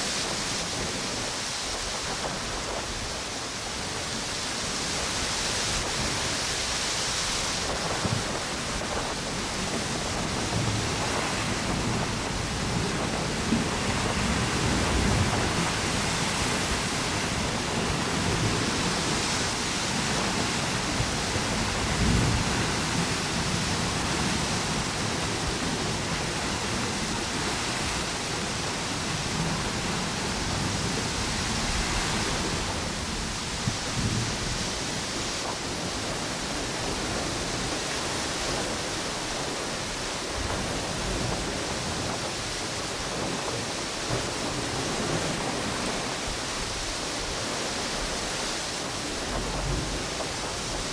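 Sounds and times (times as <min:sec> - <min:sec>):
gusting wind: 0:00.0 - 0:50.9
ocean waves washing onto beach: 0:00.0 - 0:50.9.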